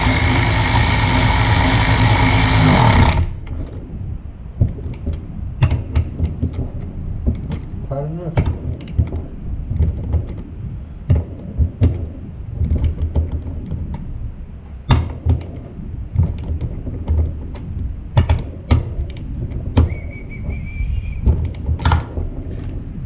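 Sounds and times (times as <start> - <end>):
low rumbling handling noise: 0.0 - 23.0.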